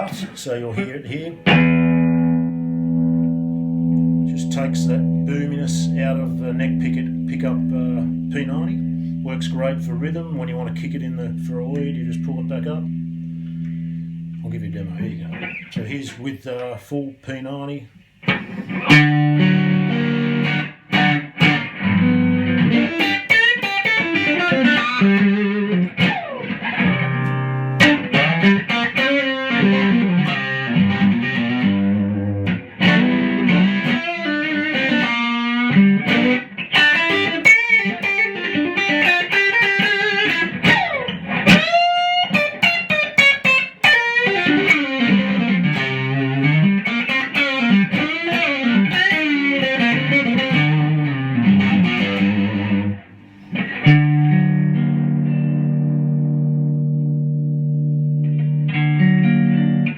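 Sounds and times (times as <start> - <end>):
electric guitar playing: 1.3 - 15.8, 18.2 - 59.9.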